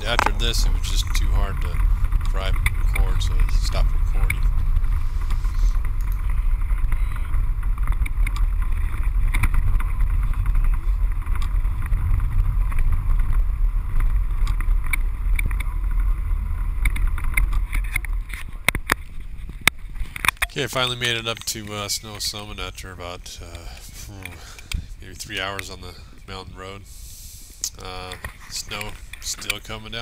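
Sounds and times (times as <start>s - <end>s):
car interior rumble: 0.0s - 26.8s.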